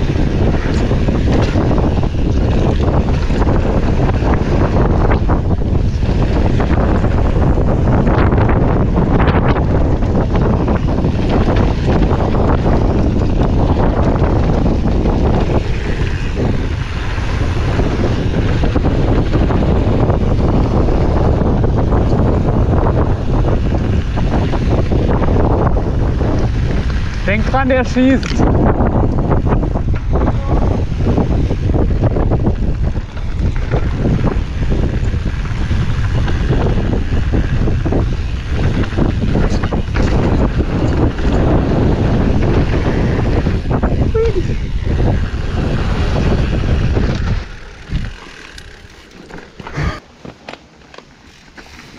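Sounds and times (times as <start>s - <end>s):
wind buffeting microphone: 0.0s - 50.1s
bike rattling and knocking: 0.0s - 51.9s
bike tyres rolling over gravel: 0.0s - 51.9s.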